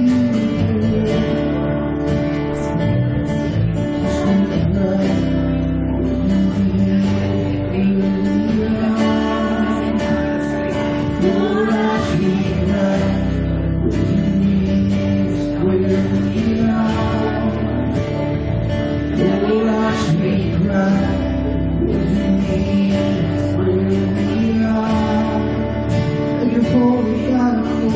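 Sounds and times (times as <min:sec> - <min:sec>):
acoustic guitar strumming: 0:00.0 - 0:27.9
keyboard: 0:00.0 - 0:27.9
person singing: 0:00.0 - 0:27.9.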